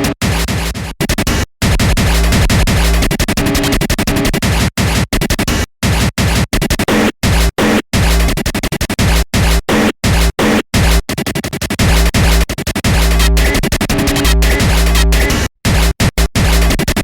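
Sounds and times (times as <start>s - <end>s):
electronic music with heavy bass: 0.0s - 0.9s, 1.7s - 8.3s, 9.0s - 11.0s, 11.8s - 17.0s
turntable scratching: 0.0s - 17.0s.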